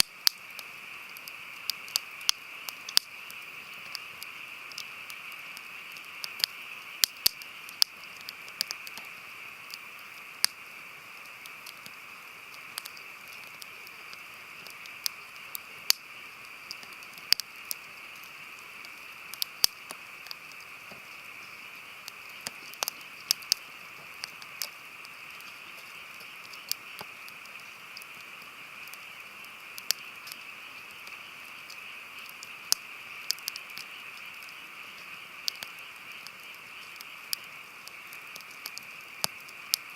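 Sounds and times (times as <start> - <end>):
campfire crackling and popping: 0.0 - 39.9
fire hiss: 0.0 - 39.9.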